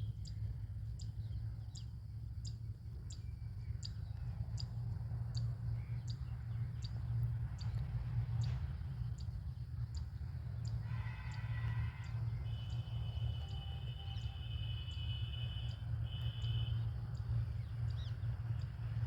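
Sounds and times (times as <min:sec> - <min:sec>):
constant low rumble: 0:00.0 - 0:19.0
long high bird calls: 0:00.0 - 0:19.0.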